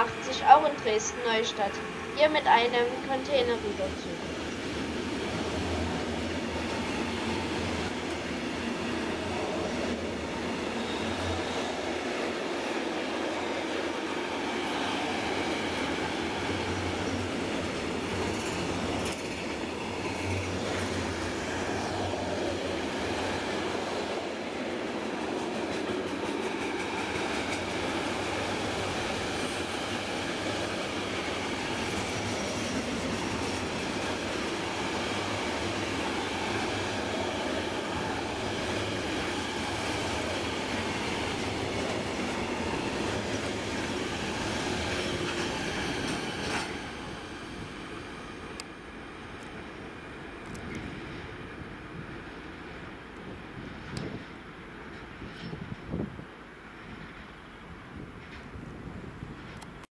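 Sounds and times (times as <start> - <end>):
train wheels running on rails: 0.0 - 59.9.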